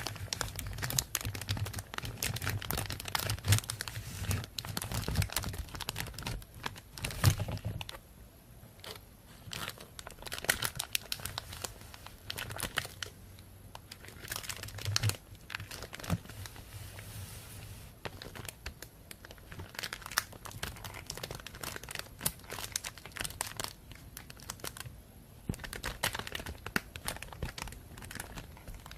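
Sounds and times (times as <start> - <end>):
plastic bag crinkling: 0.0 - 8.0, 8.8 - 13.1, 13.7 - 17.1, 18.0 - 24.9, 25.5 - 28.9.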